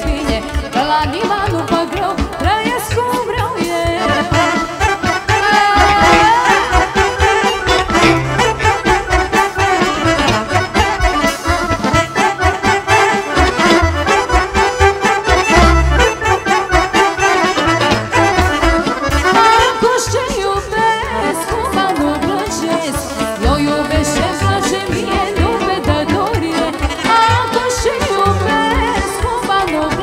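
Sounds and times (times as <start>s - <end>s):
accordion folk dance music: 0.0s - 30.0s.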